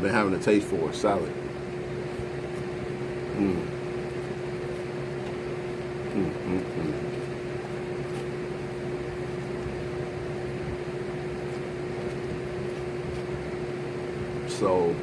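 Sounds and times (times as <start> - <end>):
electric fans running: 0.0 - 15.0.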